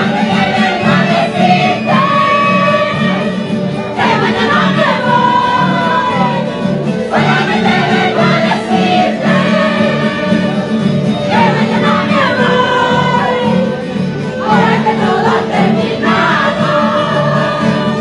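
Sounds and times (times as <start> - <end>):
group of people singing: 0.0 - 18.0
strummed guitars: 0.0 - 18.0.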